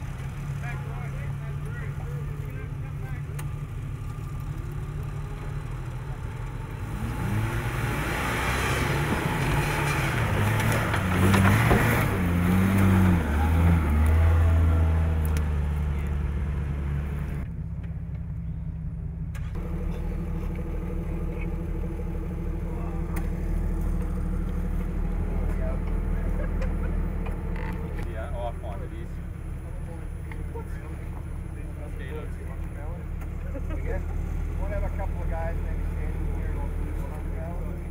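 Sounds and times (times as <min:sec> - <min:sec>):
vehicle engine revving: 0:00.0 - 0:37.9.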